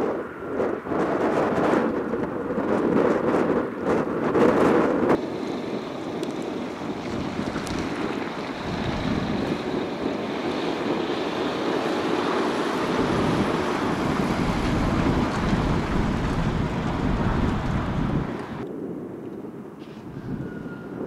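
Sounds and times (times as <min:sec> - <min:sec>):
jet engines roaring: 0:00.0 - 0:18.6.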